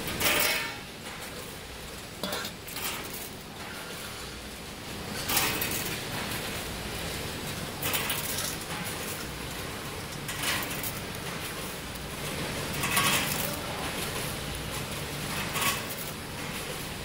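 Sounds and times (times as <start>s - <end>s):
plastic parts clattering in metal pot: 0.0s - 17.0s.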